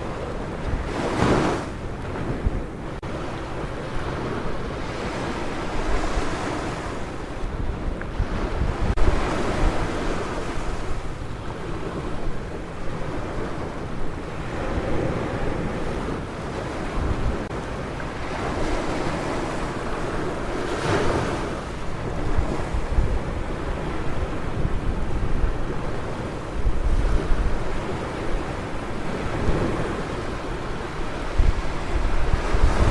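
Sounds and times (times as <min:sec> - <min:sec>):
wave breaking: 0:00.0 - 0:07.5, 0:08.1 - 0:32.9
ocean surf washing onto beach: 0:00.0 - 0:32.9
wind buffeting microphone: 0:00.0 - 0:32.9.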